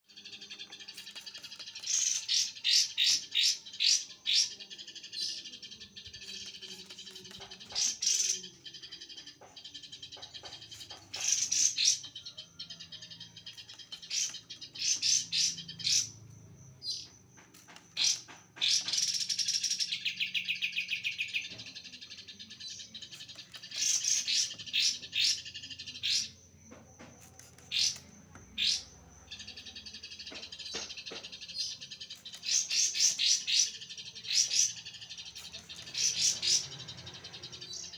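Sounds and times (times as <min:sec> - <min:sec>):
songbird chirping: 0:00.0 - 0:37.9.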